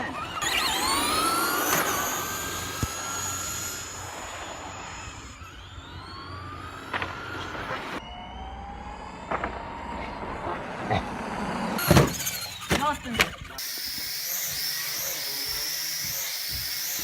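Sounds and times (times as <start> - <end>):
rc car motors whining: 0.0 - 17.0.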